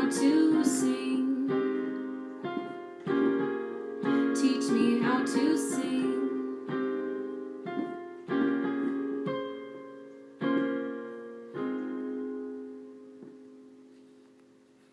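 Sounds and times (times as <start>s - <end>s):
piano chords ringing: 0.0s - 14.9s.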